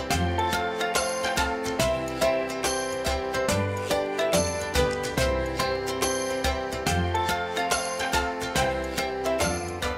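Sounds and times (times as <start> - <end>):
background music with steady beat: 0.0 - 9.9.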